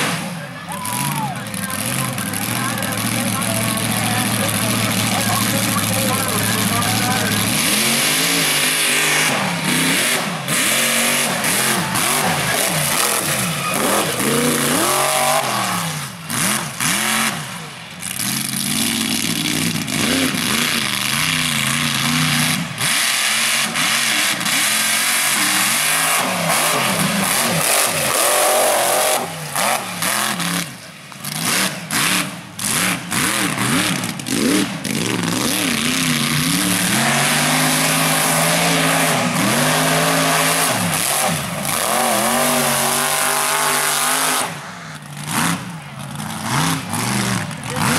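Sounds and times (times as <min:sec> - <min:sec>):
buggy engine revving hard: 0:00.0 - 0:47.9.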